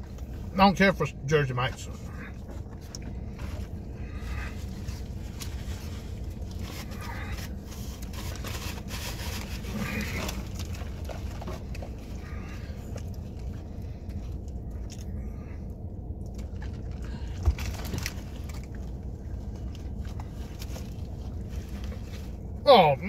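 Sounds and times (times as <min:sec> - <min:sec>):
steady low hum: 0:00.0 - 0:23.0
chewing a sandwich: 0:02.0 - 0:22.6.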